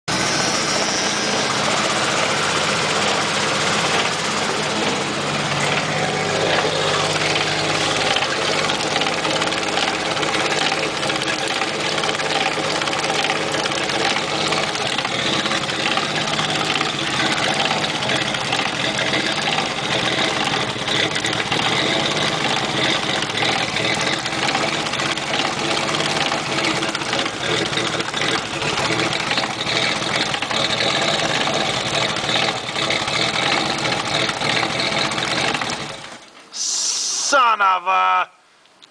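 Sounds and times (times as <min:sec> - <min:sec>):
engine and driveline running: 0:00.1 - 0:37.6.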